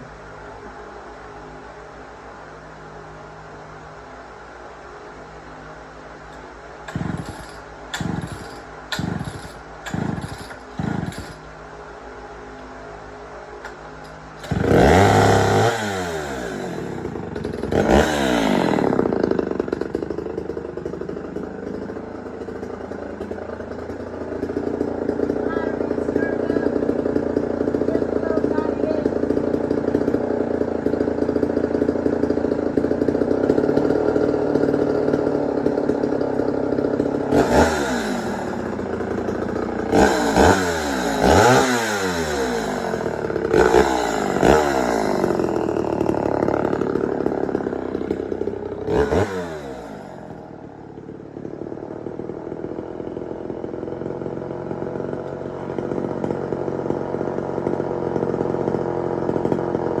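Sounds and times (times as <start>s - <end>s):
chainsaws idling: 3.4s - 60.0s
chainsaw throttle revving: 6.3s - 11.7s, 13.6s - 60.0s.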